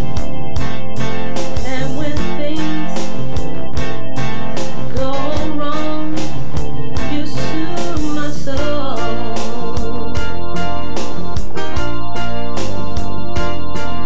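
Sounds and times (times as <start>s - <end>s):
gospel song with drums and guitar: 0.0s - 14.0s.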